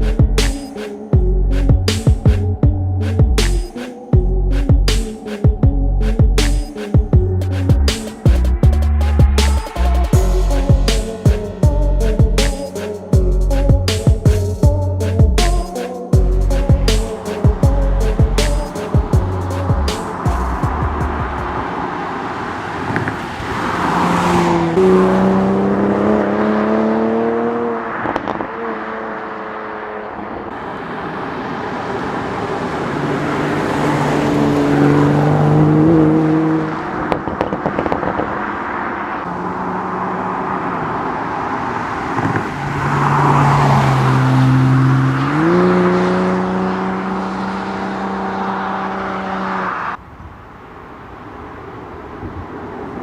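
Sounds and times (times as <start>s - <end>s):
car engine accelerating: 0.0s - 50.0s
road and wind noise: 0.0s - 53.0s.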